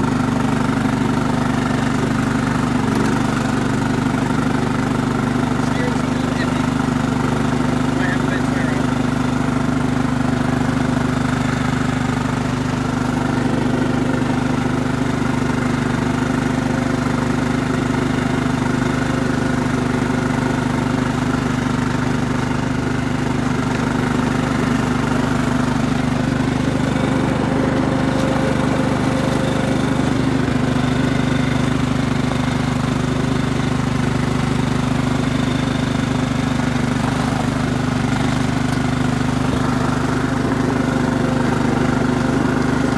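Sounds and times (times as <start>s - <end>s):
riding lawn mower engine running: 0.0s - 42.9s.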